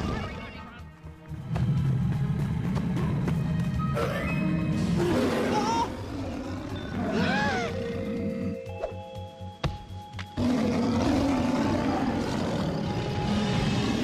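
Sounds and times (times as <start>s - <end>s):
dramatic cartoon music: 0.0s - 14.0s.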